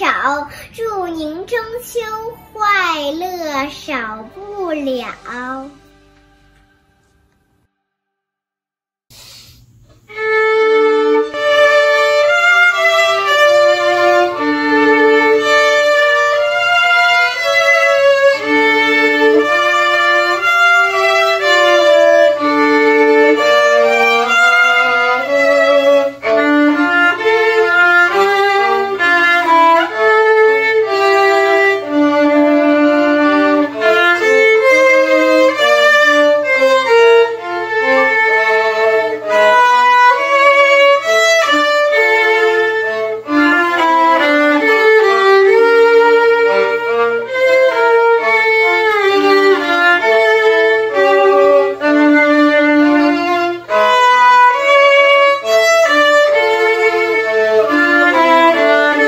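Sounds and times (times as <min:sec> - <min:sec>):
violin melody: 0:01.5 - 0:07.5, 0:09.9 - 0:59.0.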